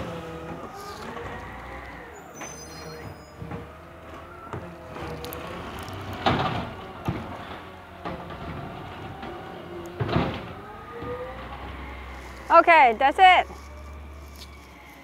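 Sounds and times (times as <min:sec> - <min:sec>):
wavering hydraulic whine: 0:00.0 - 0:06.1, 0:09.0 - 0:15.0
clunks: 0:00.0 - 0:14.7
garbage truck engine hum: 0:00.0 - 0:15.0.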